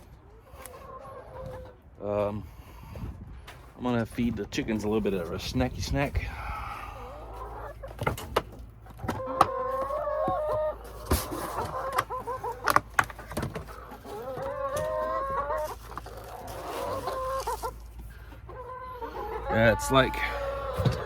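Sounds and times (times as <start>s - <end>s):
chickens squawking: 0.1s - 3.0s, 4.8s - 21.0s.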